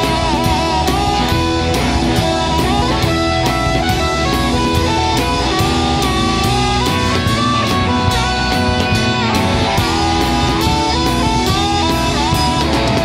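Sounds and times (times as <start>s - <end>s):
bass: 0.0s - 13.0s
drum kit beat: 0.0s - 13.0s
electric guitar lead: 0.0s - 13.0s.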